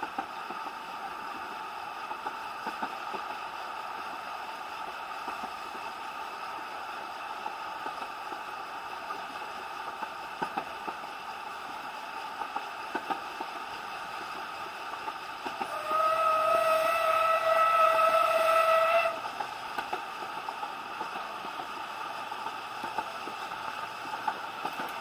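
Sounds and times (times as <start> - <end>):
railway carriage running noise: 0.0 - 25.0.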